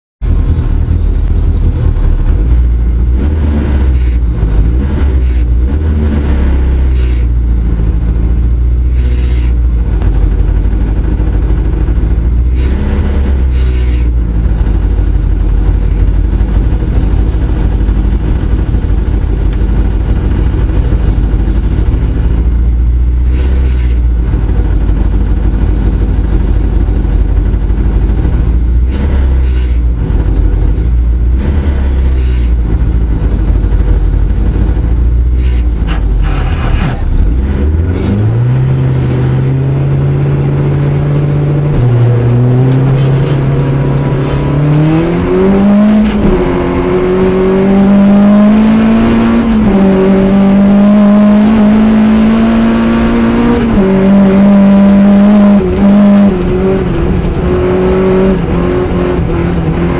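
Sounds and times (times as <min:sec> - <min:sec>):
rally car engine revving: 0:00.2 - 0:59.9.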